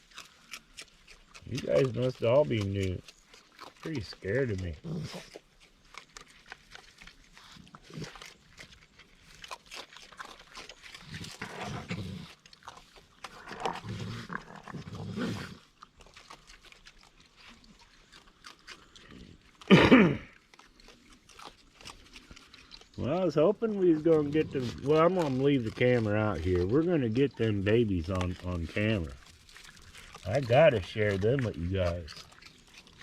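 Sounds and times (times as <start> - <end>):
raccoon snarl: 0.0 - 5.6, 6.7 - 33.0
raccoons growling and chittering: 0.0 - 33.0.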